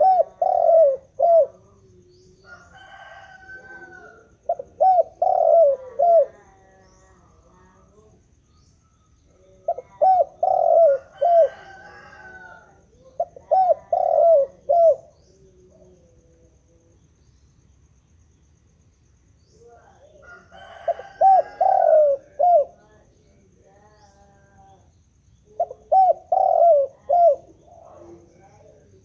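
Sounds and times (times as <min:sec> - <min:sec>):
dove cooing: 0:00.0 - 0:07.9, 0:09.3 - 0:16.9, 0:19.6 - 0:24.8, 0:25.4 - 0:29.0.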